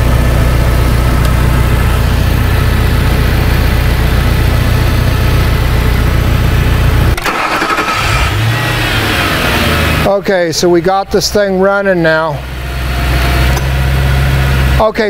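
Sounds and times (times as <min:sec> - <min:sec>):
car engine starting: 0:00.0 - 0:14.8.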